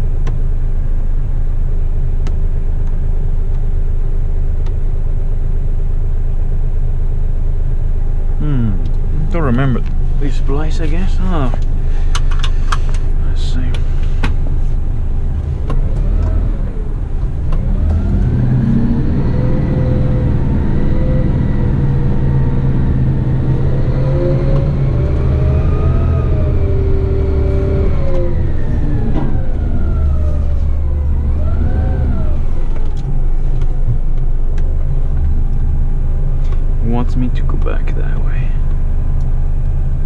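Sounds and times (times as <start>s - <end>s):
truck diesel engine running: 7.4s - 40.0s.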